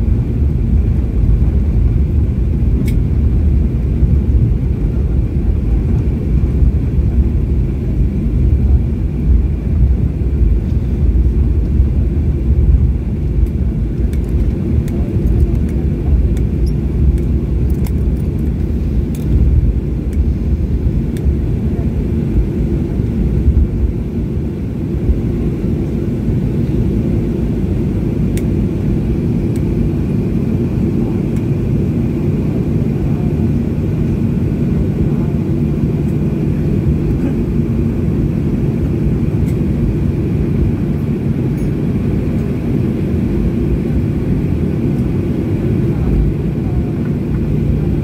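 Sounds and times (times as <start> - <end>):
rumble of jet engines and wheels: 0.0 - 48.0
steady cabin hum: 0.0 - 48.0.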